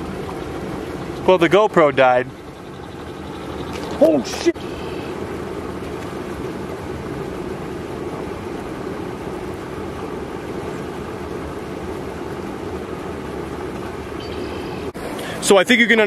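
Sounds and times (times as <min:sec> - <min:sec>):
water rushing through spillway: 0:00.0 - 0:16.0.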